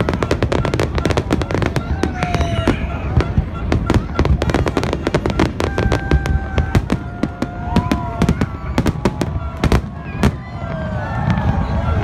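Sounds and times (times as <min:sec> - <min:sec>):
fireworks held tones: 0:00.0 - 0:10.5
fireworks bangs: 0:00.0 - 0:12.0.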